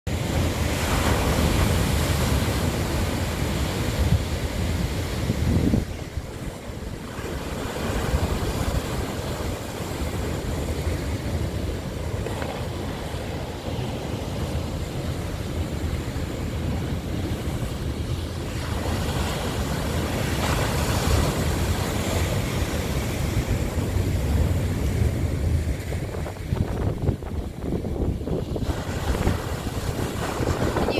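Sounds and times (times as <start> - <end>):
waves breaking on boulders: 0.1 - 30.9
wind buffeting microphone: 0.1 - 30.9.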